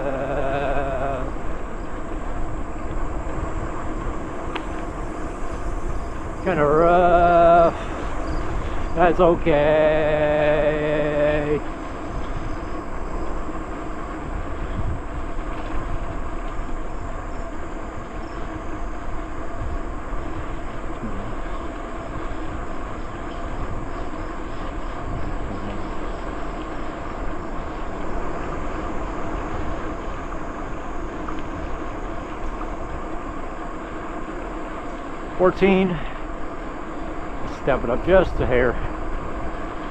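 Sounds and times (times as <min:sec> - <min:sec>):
bicycle tyres rattling on trail: 0:00.0 - 0:39.9
wind on microphone: 0:00.0 - 0:39.9.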